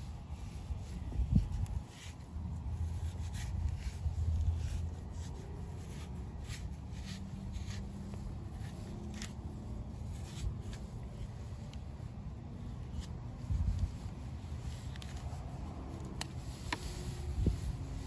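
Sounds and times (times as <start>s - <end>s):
knife scraping cactus skin: 0.1s - 18.0s.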